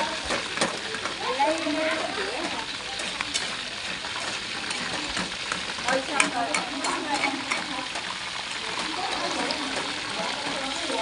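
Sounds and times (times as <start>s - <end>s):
chicken wings sizzling in oil: 0.0s - 11.0s.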